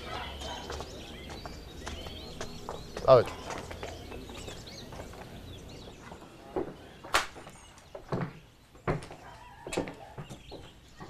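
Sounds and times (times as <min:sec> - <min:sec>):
birds chirping faintly: 0:00.0 - 0:11.0
footsteps walking up stairs: 0:00.3 - 0:11.0.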